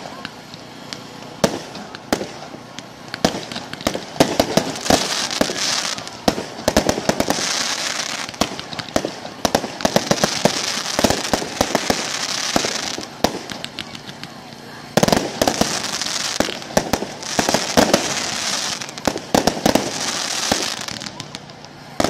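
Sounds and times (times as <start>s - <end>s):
firework bangs: 0.0s - 22.0s
fireworks hissing crackle: 0.0s - 22.0s.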